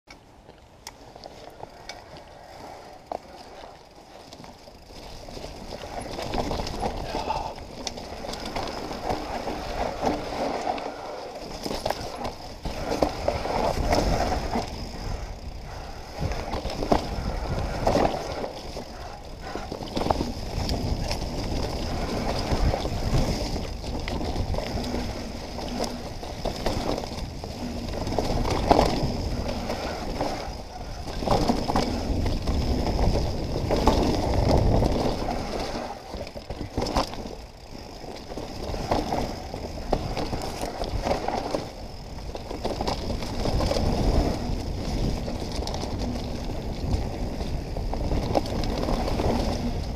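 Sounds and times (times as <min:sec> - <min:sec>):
tyres crunching over dirt: 0:00.1 - 0:49.9
bike rattling and knocking: 0:00.4 - 0:49.9
wind on microphone: 0:05.7 - 0:36.8, 0:38.3 - 0:49.9.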